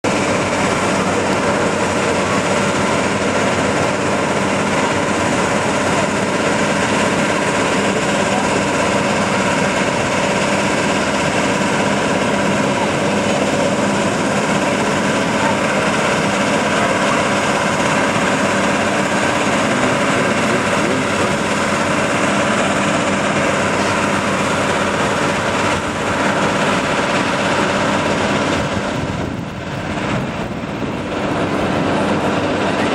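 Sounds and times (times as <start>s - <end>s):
machine droning: 0.0s - 32.9s.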